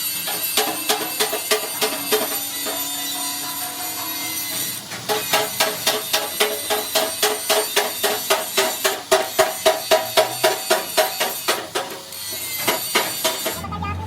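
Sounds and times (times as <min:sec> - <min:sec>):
hammer ringing on steel: 0:00.0 - 0:13.5.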